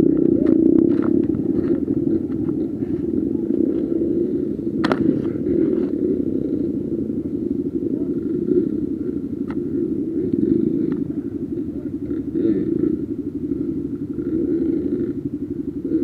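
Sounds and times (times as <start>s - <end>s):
dirt bike engines idling: 0.0s - 16.0s.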